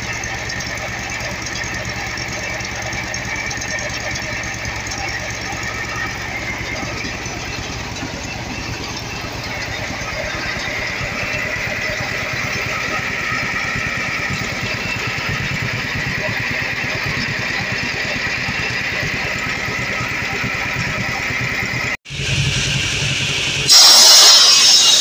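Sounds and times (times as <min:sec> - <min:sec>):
tractor engine pulsing: 0:00.0 - 0:23.7
buzz saw blade humming: 0:01.4 - 0:22.0, 0:22.8 - 0:25.0.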